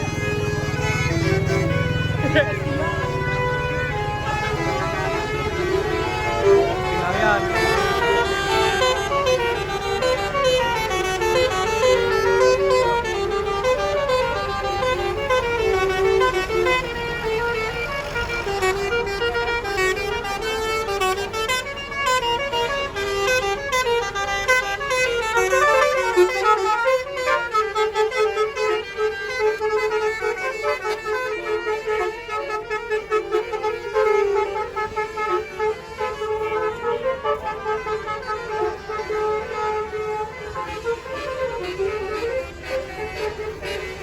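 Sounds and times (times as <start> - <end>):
musical bus horns playing melody: 0.0 - 44.0.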